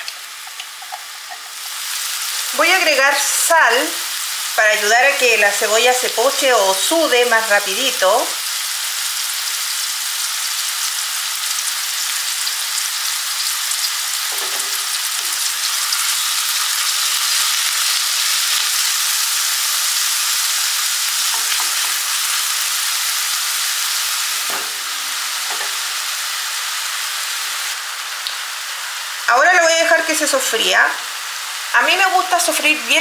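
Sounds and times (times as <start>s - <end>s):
onion sizzling in oil: 0.0s - 33.0s.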